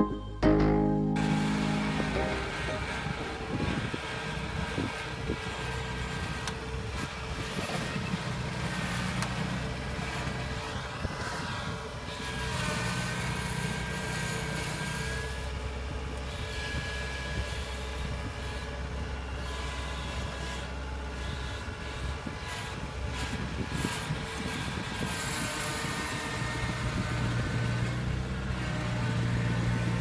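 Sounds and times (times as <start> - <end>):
combine harvester diesel engine: 0.0 - 30.0.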